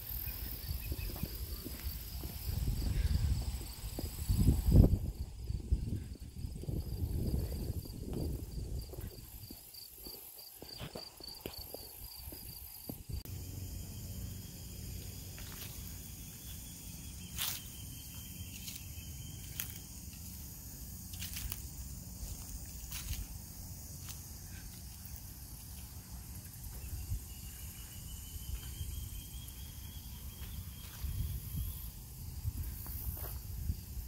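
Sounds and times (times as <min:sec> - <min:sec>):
insect buzzing: 0:00.0 - 0:34.0
insect chirping: 0:00.0 - 0:34.0.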